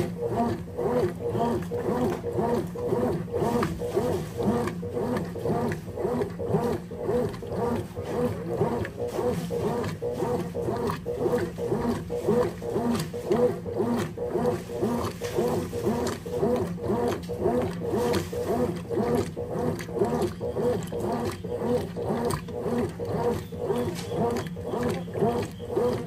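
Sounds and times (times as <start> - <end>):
washing machine agitator groaning: 0.0 - 26.0.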